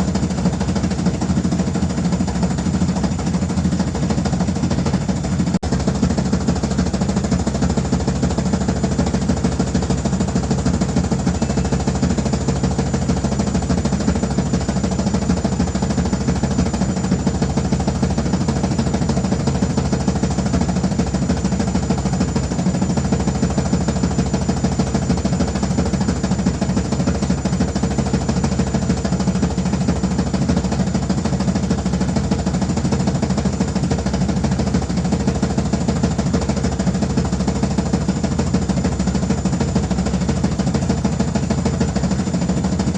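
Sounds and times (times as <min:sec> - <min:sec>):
washing machine running: 0:00.0 - 0:42.9.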